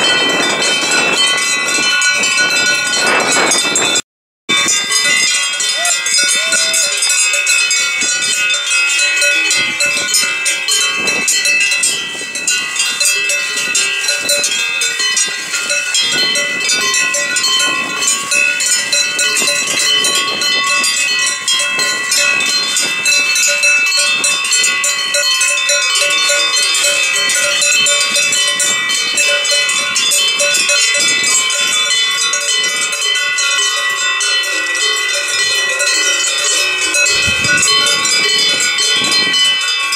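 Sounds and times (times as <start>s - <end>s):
cowbells clanging: 0.0s - 39.9s.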